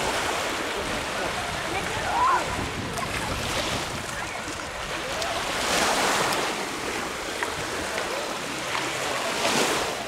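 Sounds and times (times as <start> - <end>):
small waves breaking on sand: 0.0 - 10.0.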